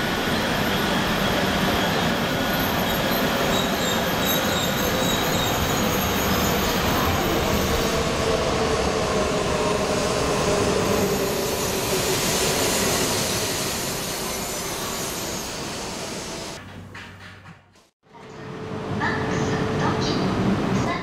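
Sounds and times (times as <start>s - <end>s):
train rumbling and whining: 0.0s - 17.0s, 18.3s - 21.0s.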